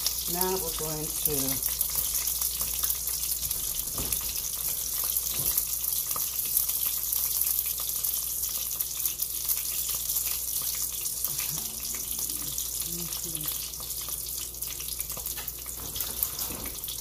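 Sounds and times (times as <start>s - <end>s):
meat sizzling in hot oil: 0.0s - 17.0s
small crackles and pops: 0.0s - 17.0s.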